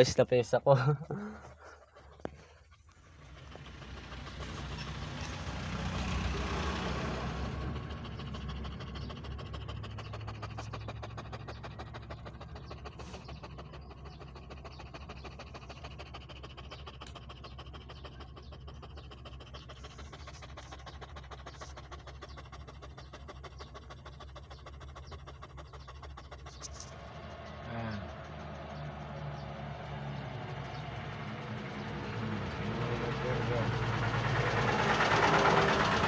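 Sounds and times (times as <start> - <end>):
dog panting rapidly: 0.0 - 36.0.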